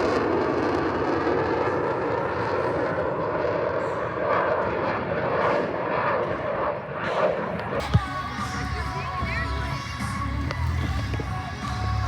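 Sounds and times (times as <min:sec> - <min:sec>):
aircraft engine rumble: 0:00.0 - 0:12.0.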